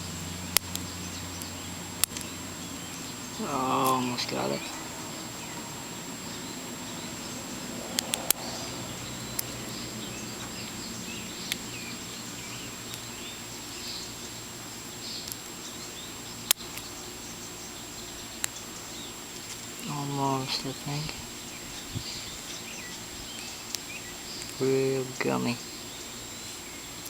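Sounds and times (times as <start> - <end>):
birds chirping faintly: 0.0 - 27.0
faint steady hum: 0.0 - 27.0.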